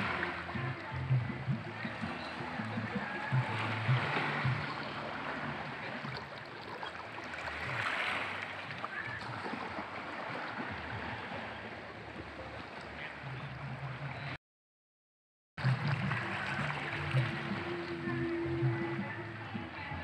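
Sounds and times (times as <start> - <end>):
waves lapping against rocks: 0.0 - 14.4, 15.6 - 20.0.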